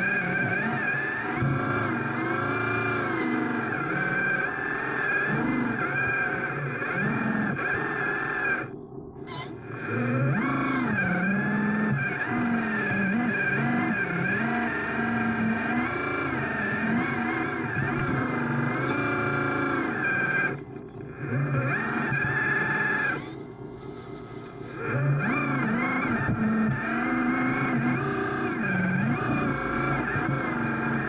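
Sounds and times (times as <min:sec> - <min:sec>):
model machine motor whirring: 0:00.0 - 0:31.0.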